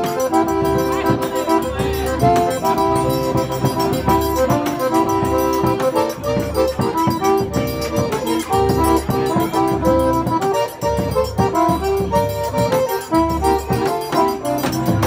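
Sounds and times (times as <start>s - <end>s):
accordion playing lively tune: 0.0s - 15.0s
drum beating steady rhythm: 0.0s - 15.0s.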